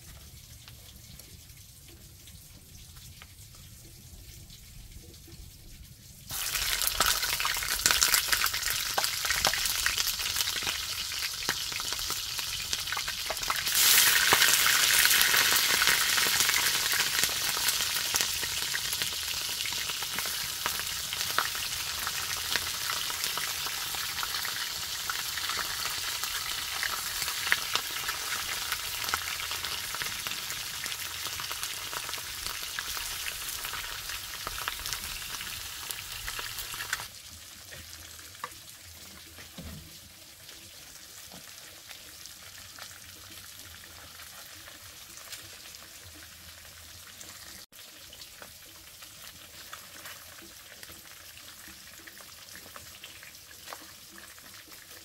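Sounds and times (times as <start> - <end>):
small oil crackles: 0.0 - 55.0
food sizzling in hot oil: 6.2 - 55.0.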